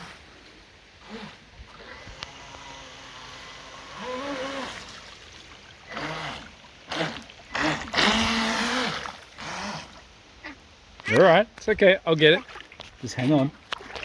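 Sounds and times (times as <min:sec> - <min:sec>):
water splashing and trickling: 0:00.3 - 0:10.2, 0:11.8 - 0:14.0.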